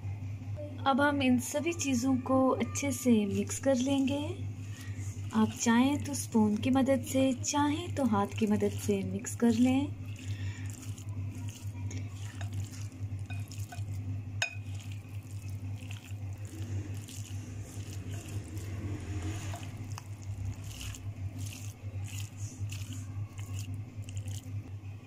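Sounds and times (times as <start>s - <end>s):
steady low hum: 0.0s - 25.0s
wet mince squelching: 2.7s - 24.9s
spatula scraping glass bowl: 3.3s - 24.5s.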